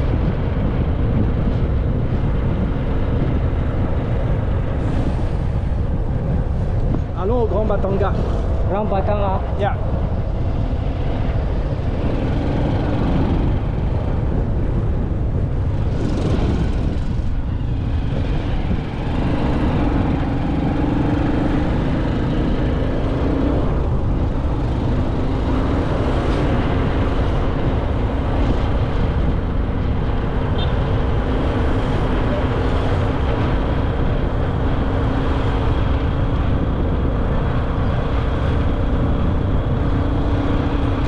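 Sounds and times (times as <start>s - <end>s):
wind rumble on microphone: 0.0s - 41.0s.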